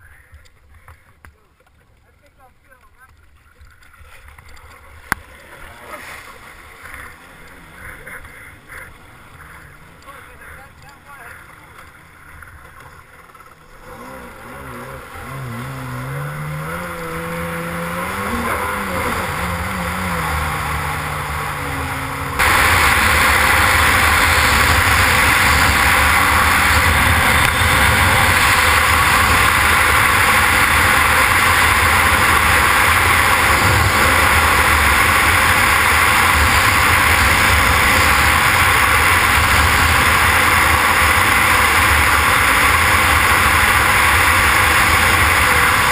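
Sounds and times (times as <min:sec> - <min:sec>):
jet ski engine running: 0:02.0 - 0:45.9.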